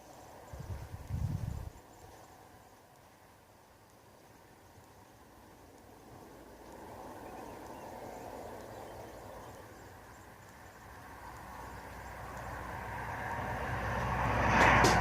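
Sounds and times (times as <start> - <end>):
road vehicle approaching: 0.0 - 15.0.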